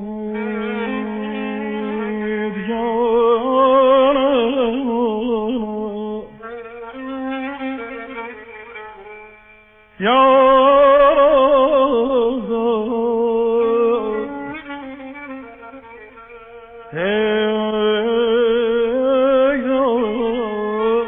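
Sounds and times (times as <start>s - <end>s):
solo violin playing: 0.0s - 21.0s.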